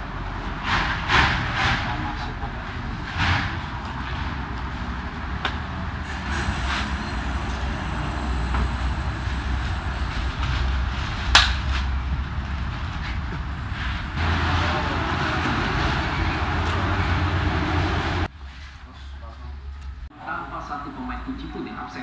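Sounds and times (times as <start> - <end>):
low engine rumble: 0.0 - 21.3.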